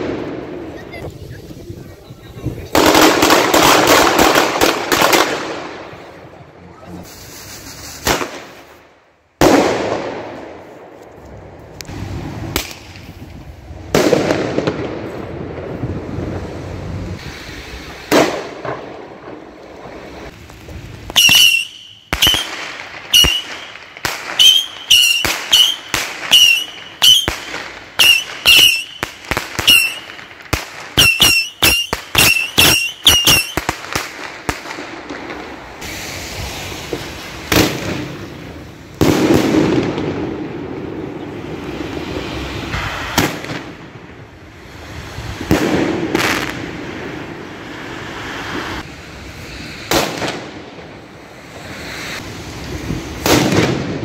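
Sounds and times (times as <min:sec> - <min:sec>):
fireworks sharp bangs: 0:00.0 - 0:11.0, 0:11.9 - 0:54.0
fireworks booming: 0:00.0 - 0:54.0.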